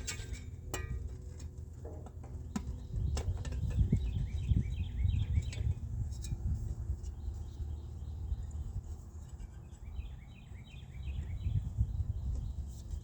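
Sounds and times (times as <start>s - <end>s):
low steady rumble: 0.0s - 13.0s
bird chirping: 2.3s - 13.0s.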